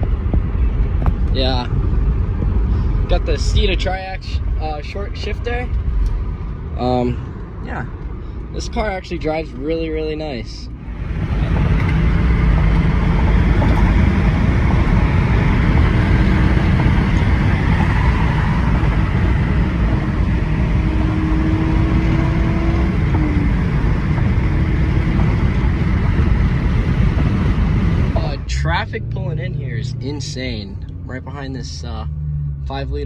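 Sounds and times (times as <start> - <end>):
car engine in cabin: 0.0 - 33.0
road noise: 0.0 - 33.0.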